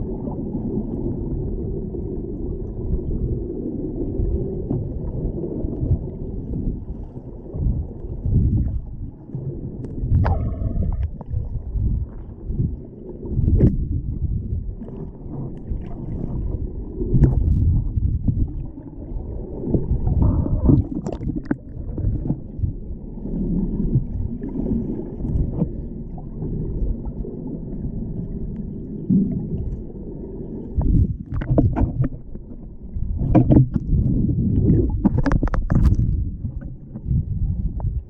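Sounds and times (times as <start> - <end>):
underwater rumble and gurgle: 0.0 - 38.0
water splashes: 4.1 - 37.9.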